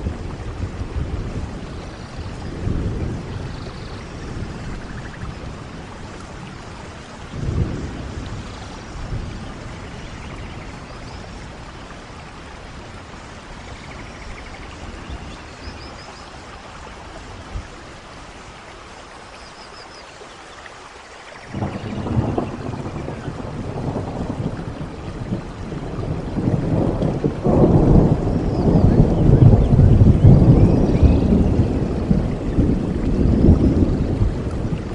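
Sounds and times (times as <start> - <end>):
rolling thunder: 0.0 - 16.1, 21.5 - 34.9
steady rain: 0.0 - 34.9.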